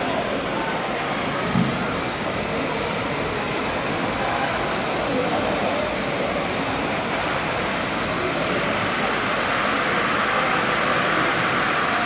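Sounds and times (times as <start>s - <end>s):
hum of busy hall: 0.0s - 12.0s.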